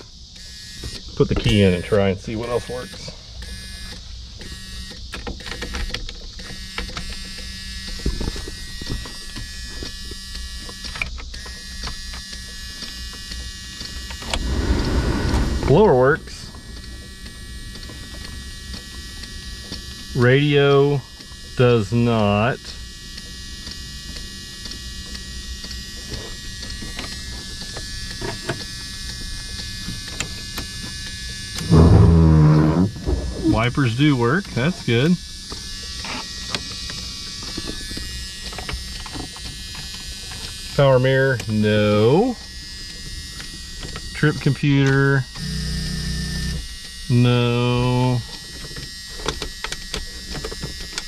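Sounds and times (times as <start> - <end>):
electrical warning buzzer: 0.0 - 51.0.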